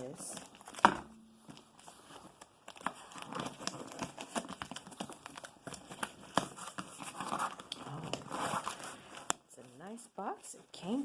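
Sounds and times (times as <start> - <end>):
packing material rustling: 0.0 - 11.0.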